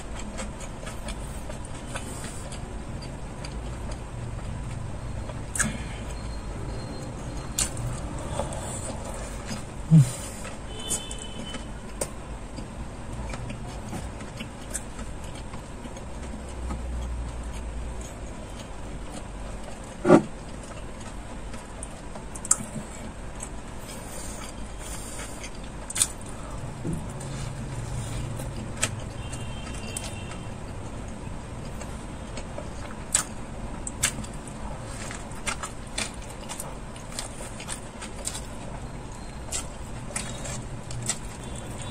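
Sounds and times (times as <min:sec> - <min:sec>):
person chewing: 0:00.0 - 0:41.9
steady low hum: 0:00.0 - 0:41.9.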